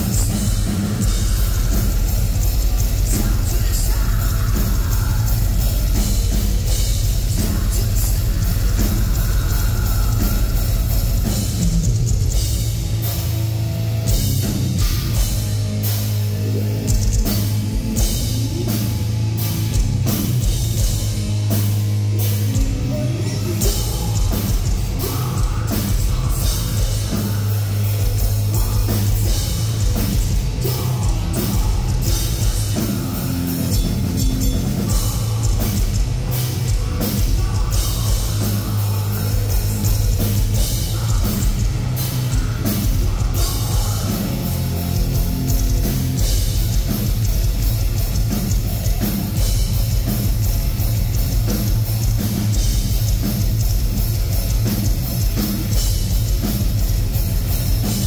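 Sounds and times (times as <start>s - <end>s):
drum kit: 0.0s - 58.0s
guitars: 0.0s - 58.0s
heavy metal band playing: 0.0s - 58.0s.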